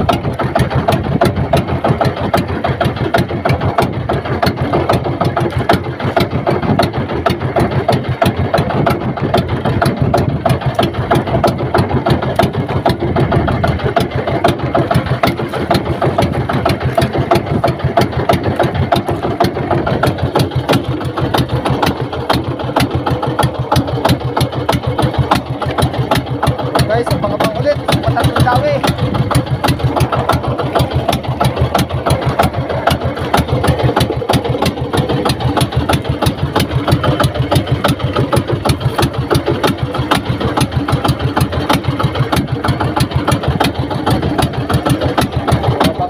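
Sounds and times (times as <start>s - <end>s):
small boat engine running: 0.0s - 46.0s.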